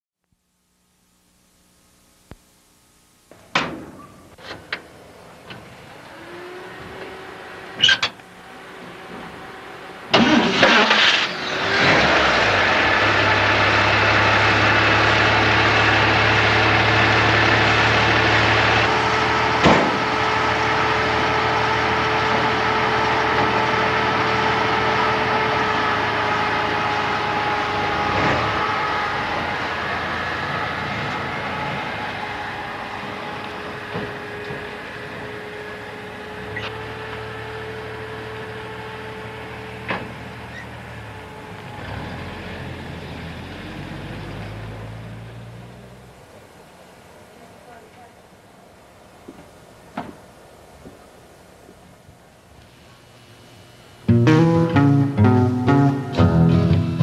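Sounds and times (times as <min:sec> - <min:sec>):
engine whine: 0:03.3 - 0:50.1, 0:50.8 - 0:57.0
truck engine idling: 0:04.1 - 0:51.7.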